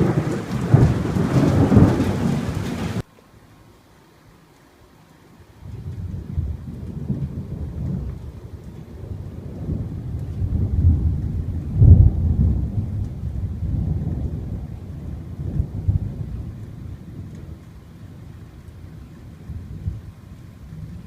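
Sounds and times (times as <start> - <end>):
rolling thunder: 0.0 - 3.0, 5.6 - 21.0
rain falling: 0.0 - 21.0.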